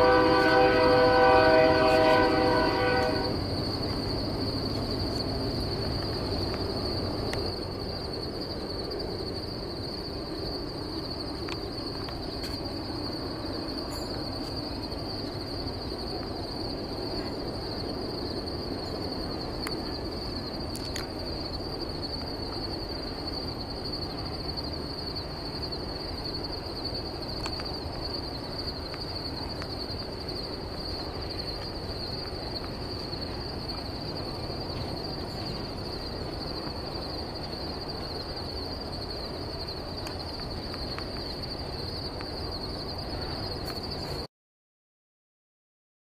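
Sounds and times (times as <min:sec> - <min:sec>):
distant freight train rumble: 0:00.0 - 0:44.3.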